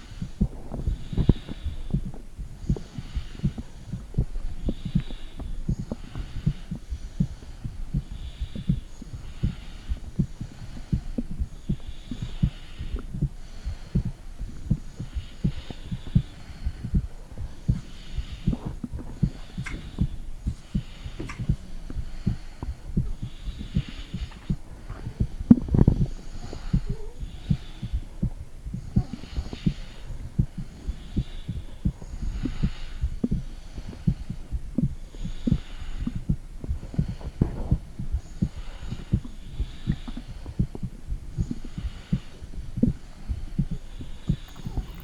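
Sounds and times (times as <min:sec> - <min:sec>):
heartbeat thumps: 0:00.0 - 0:45.0
soft hiss: 0:00.0 - 0:45.0.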